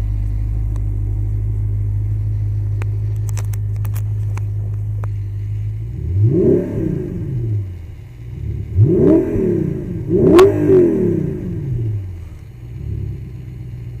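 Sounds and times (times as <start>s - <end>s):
car engine revving from idle: 0.0s - 14.0s
sharp exhaust crack: 0.0s - 14.0s.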